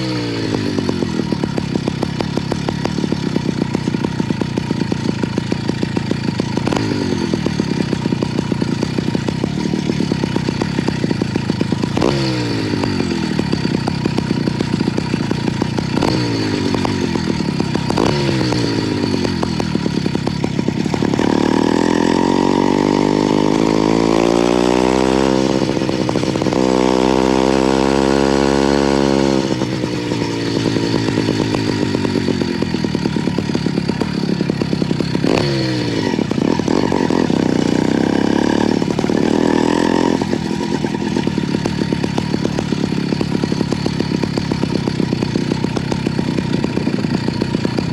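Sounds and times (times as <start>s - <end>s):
two-stroke engine revving: 0.0s - 47.9s.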